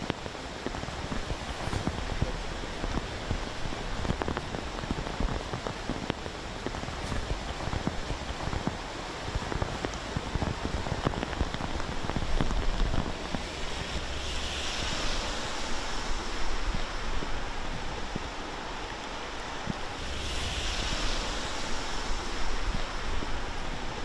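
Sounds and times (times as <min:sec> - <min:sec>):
rushing water: 0:00.0 - 0:24.0
steady rain: 0:00.0 - 0:24.0
wind buffeting microphone: 0:00.0 - 0:24.0.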